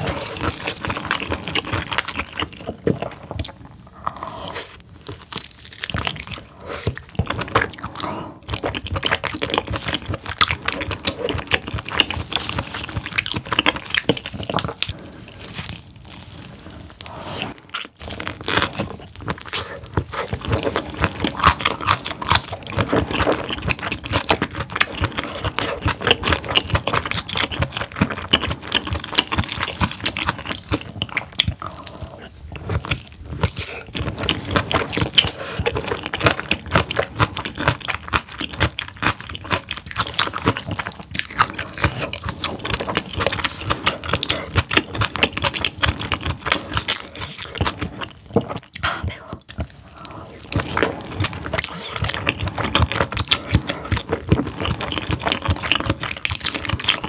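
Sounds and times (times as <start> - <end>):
close chewing mouth clicks: 0.0 - 15.7, 17.4 - 57.0.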